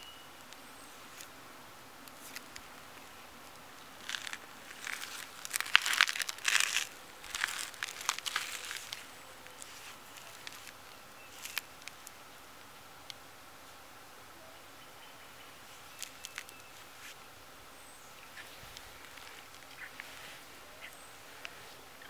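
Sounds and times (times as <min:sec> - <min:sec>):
crinkly crackling rustle: 0:00.4 - 0:01.4, 0:02.0 - 0:13.2, 0:15.6 - 0:17.2, 0:18.0 - 0:22.0.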